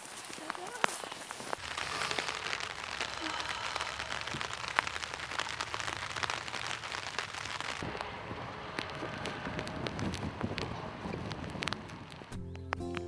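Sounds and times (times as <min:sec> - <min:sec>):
rain hitting an umbrella: 0:00.0 - 0:13.0.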